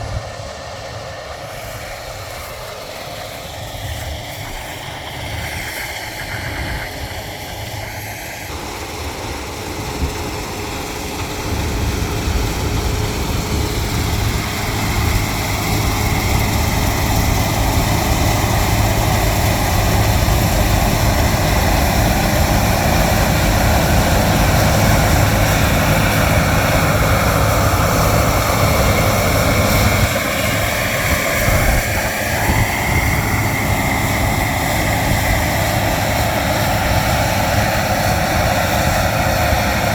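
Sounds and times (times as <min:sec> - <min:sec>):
harvest machinery engine: 0:00.0 - 0:39.9
machinery whir: 0:00.0 - 0:39.9.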